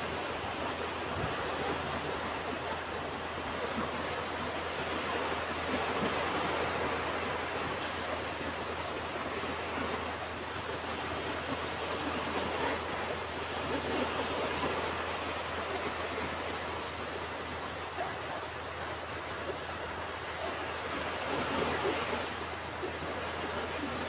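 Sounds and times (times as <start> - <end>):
ocean waves washing on beach: 0.0 - 24.0.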